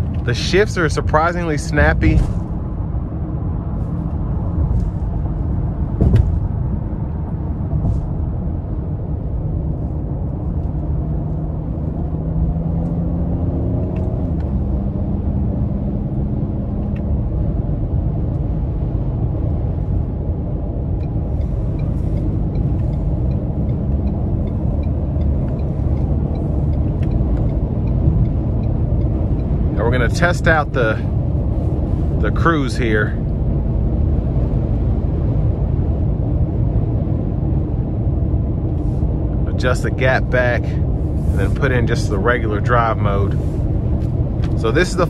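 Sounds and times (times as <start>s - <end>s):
car engine drone: 0.0s - 45.0s
road and tyre noise: 0.0s - 45.0s.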